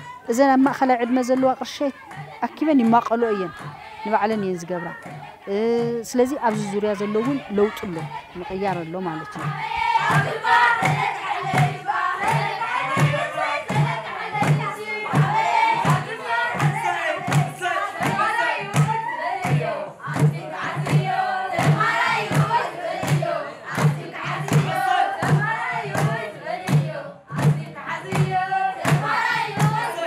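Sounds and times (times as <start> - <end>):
group of girls singing: 0.0 - 30.0
steady drumbeat: 2.1 - 30.0.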